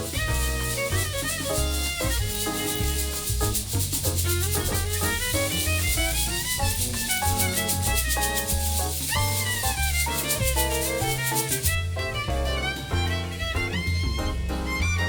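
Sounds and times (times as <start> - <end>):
shaker rhythm: 0.0 - 15.0
upbeat instrumental music: 0.0 - 15.0.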